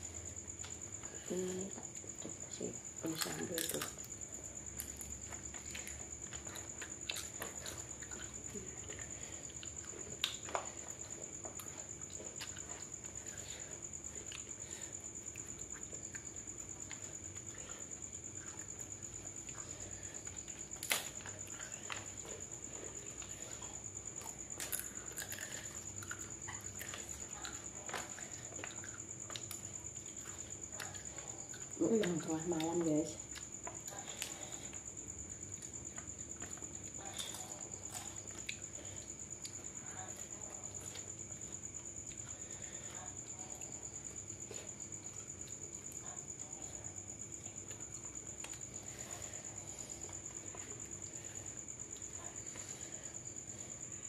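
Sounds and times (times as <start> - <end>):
people chewing and eating: 0.0 - 54.0.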